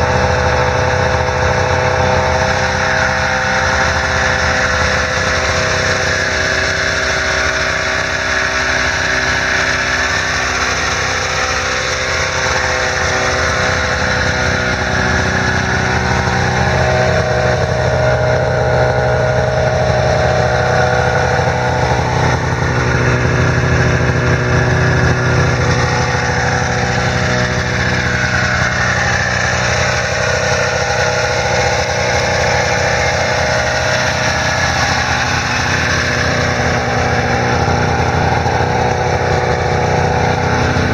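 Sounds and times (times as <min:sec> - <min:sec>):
snowmobile engine idling: 0:00.0 - 0:40.9.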